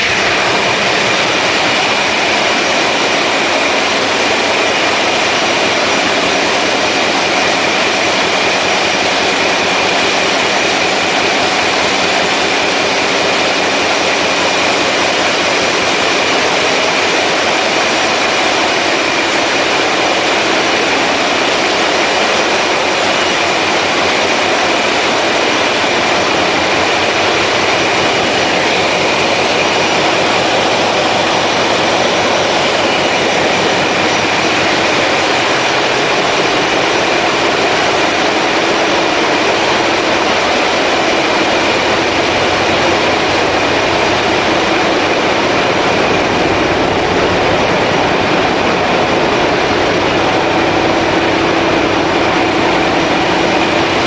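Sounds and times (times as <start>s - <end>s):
marine diesel engines running: 0.0s - 54.0s.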